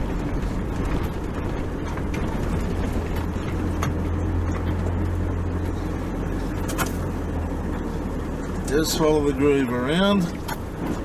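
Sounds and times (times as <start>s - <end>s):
vehicle engine and tyres droning: 0.0s - 11.0s.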